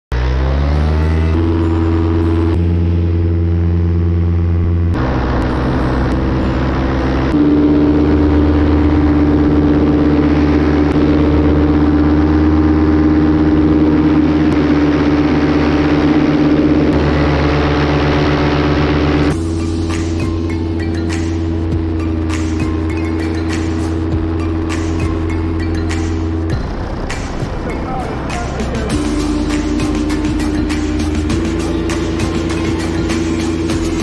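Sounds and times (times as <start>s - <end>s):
paramotor engine running: 0.1s - 34.0s.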